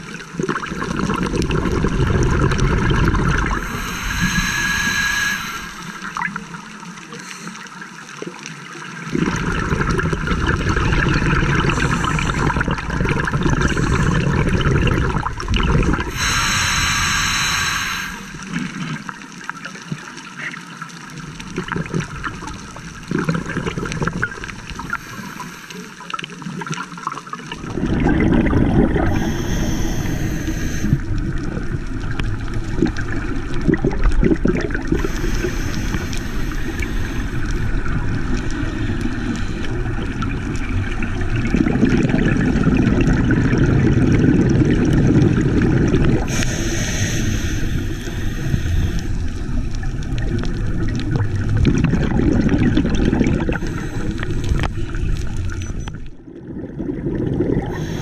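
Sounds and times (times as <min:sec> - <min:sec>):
exhaled bubbles bubbling: 0:00.0 - 0:07.2, 0:07.9 - 0:58.0
underwater rush of water: 0:00.0 - 0:58.0.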